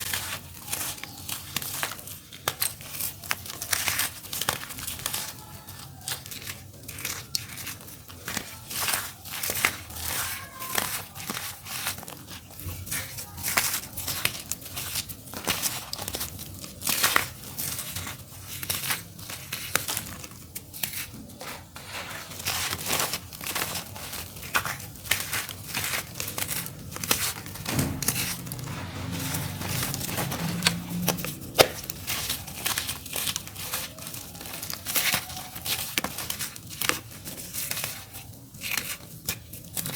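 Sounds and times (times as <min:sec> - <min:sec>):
dry dirt crumbling and crunching: 0:00.0 - 0:39.9.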